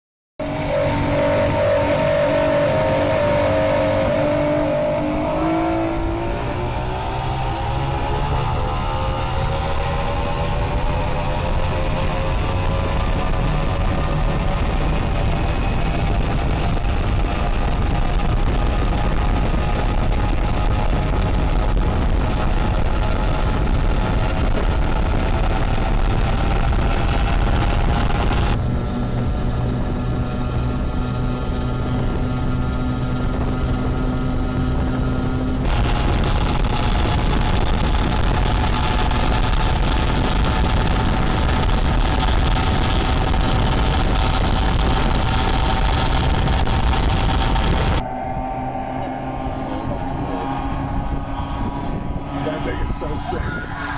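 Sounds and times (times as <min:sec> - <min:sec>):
motorboat engine droning: 0:00.4 - 0:53.9.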